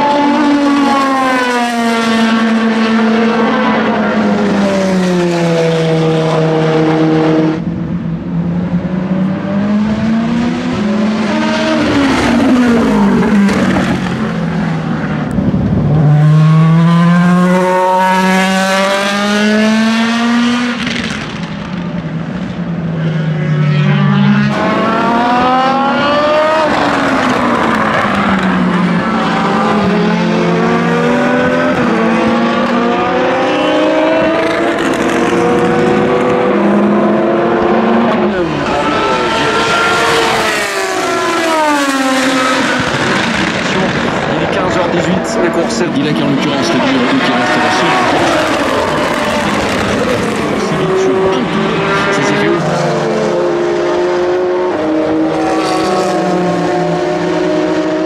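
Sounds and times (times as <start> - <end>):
racing car engines: 0.0 - 58.0.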